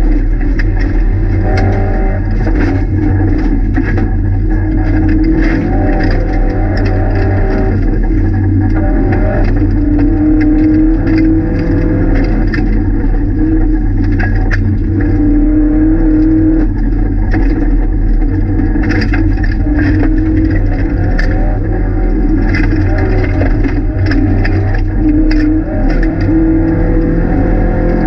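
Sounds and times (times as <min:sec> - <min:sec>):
gravel rattling against car underside: 0:00.0 - 0:28.0
rally car engine revving: 0:00.0 - 0:28.0.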